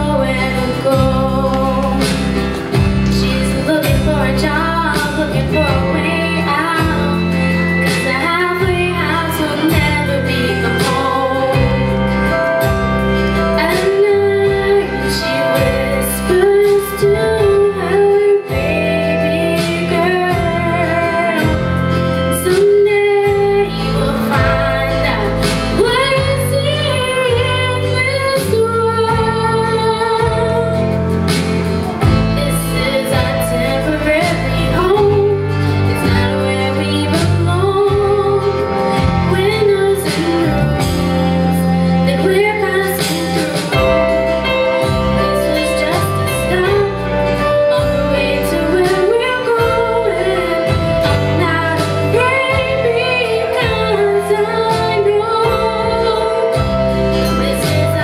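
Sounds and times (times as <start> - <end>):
girl singing into a microphone: 0.0 - 2.2, 3.0 - 12.1, 13.6 - 30.9, 32.4 - 58.0
amplified music with bass line: 0.0 - 58.0.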